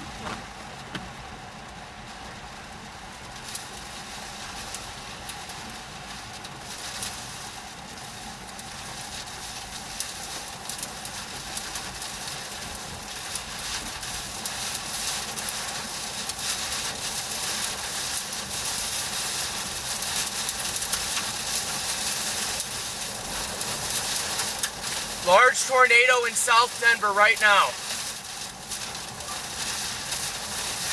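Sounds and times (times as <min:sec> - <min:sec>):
storm wind and rain: 0:00.0 - 0:30.9.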